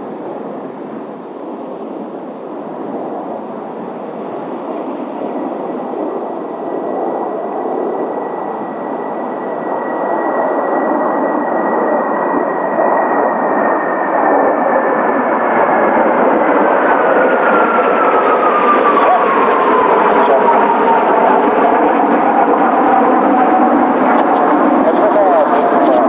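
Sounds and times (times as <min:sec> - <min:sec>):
high turbine whine: 0:00.0 - 0:26.0
jet engines passing: 0:00.0 - 0:26.0.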